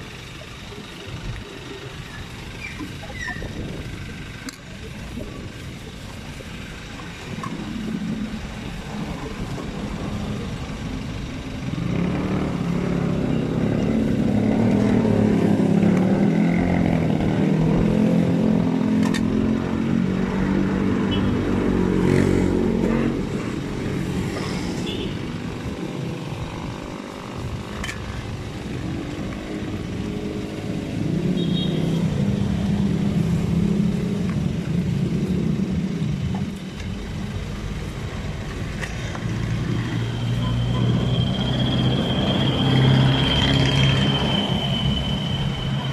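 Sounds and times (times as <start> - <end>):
street noise: 0.0 - 45.9
vehicle engine running: 0.0 - 45.9.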